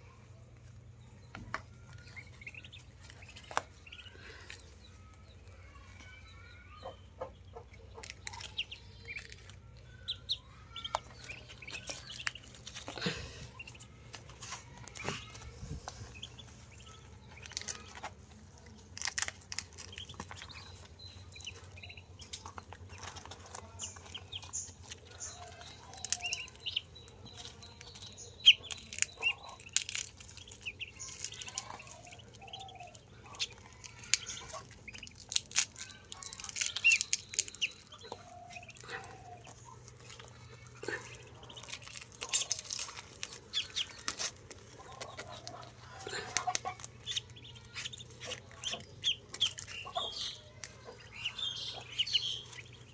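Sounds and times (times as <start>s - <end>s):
poultry clucking: 0.0s - 4.8s, 6.7s - 18.7s, 19.6s - 52.9s
ducklings peeping: 0.0s - 52.9s.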